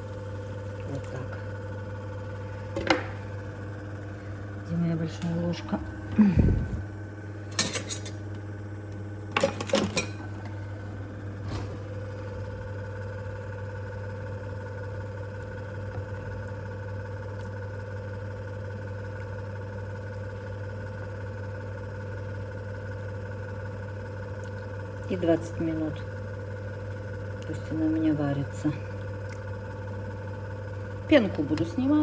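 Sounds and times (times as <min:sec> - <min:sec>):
kitchen appliance humming: 0:00.0 - 0:32.0.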